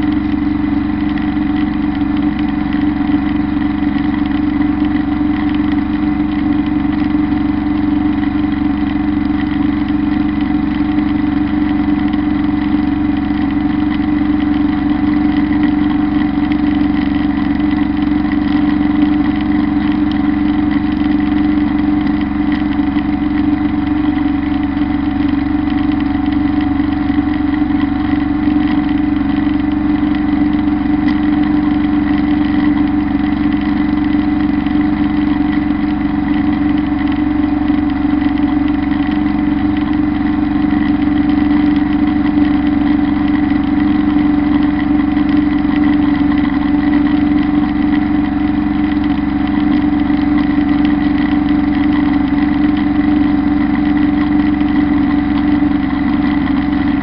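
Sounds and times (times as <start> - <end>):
mower high whine: 0.0 - 57.0
tractor diesel engine running: 0.0 - 57.0.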